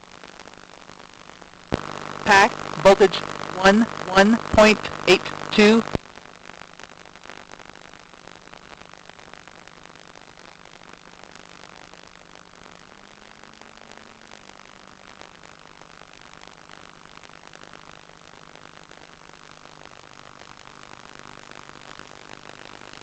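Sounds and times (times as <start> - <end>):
crackling static hiss: 0.0 - 23.0.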